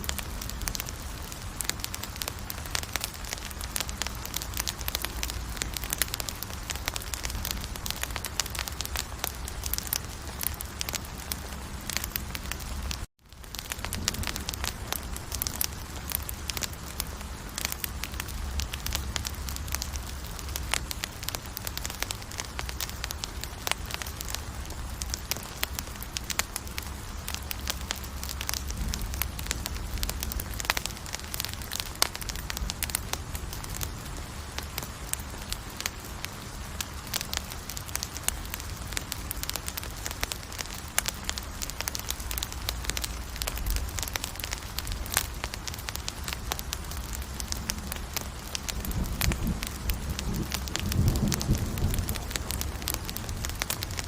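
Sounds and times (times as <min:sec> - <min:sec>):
low rumble of flames: 0:00.0 - 0:54.0
wood crackling and popping: 0:00.0 - 0:54.0.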